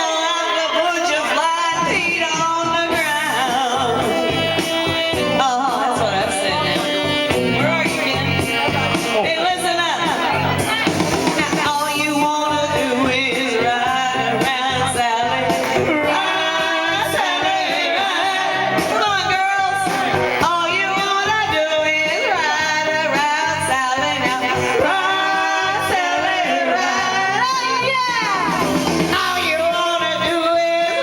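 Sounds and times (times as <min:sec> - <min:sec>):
band playing: 0:00.0 - 0:31.0
lead vocalist singing: 0:00.0 - 0:31.0.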